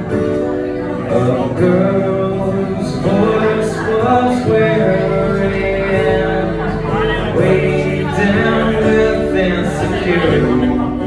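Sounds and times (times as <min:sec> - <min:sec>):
acoustic guitar strumming: 0:00.0 - 0:11.0
man singing: 0:00.7 - 0:11.0.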